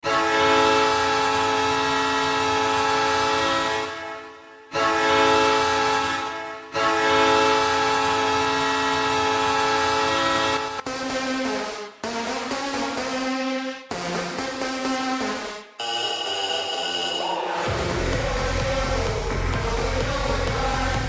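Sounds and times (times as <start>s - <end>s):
goal horn chord blasts: 0.0s - 19.6s.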